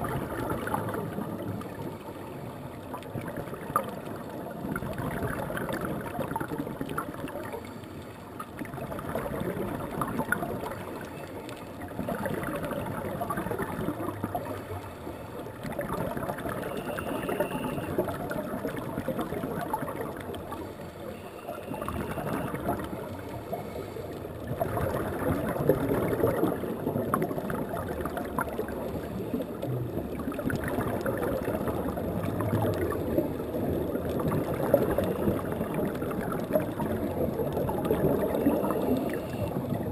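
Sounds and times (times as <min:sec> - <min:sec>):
exhaled bubbles gurgling: 0:00.0 - 0:39.9.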